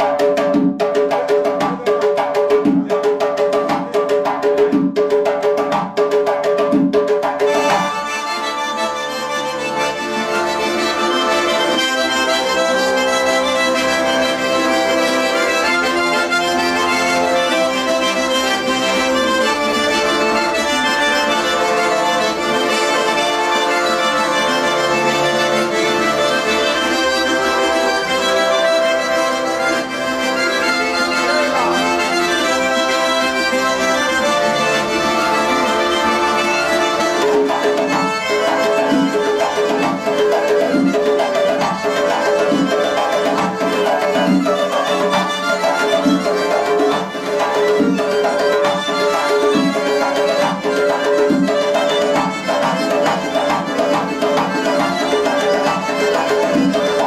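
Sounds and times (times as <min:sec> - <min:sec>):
frame drum beat: 0:00.0 - 0:08.6, 0:09.8 - 0:57.0
button accordion playing: 0:07.3 - 0:57.0.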